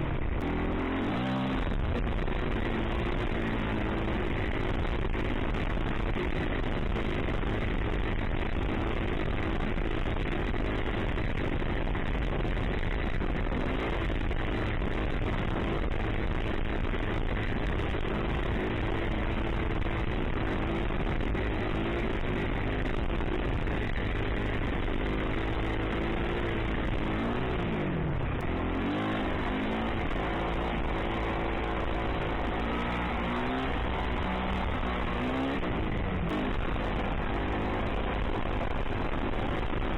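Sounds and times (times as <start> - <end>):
constant noisy rush: 0.0 - 39.9
dirt bike engine running: 0.0 - 39.9.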